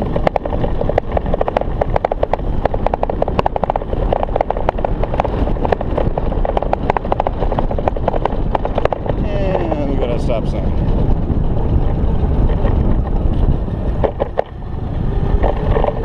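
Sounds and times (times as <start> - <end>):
scooter chain rattling clicks: 0.0 - 16.0
wind rushing over microphone: 0.0 - 16.0.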